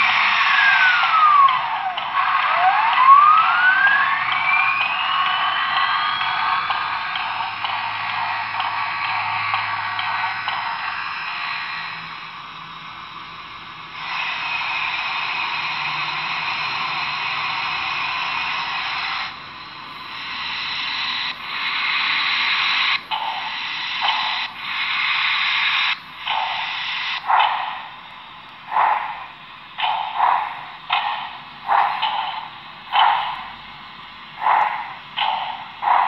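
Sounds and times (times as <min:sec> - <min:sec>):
steam hiss from small speaker: 0:00.0 - 0:36.0.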